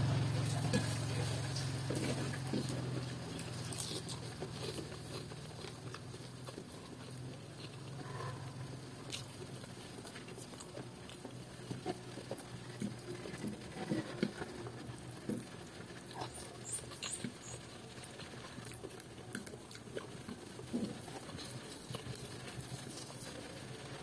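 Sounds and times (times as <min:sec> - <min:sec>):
chewing and lip-smacking: 0:00.6 - 0:24.0
fingers picking at food: 0:00.7 - 0:08.4, 0:09.0 - 0:23.6.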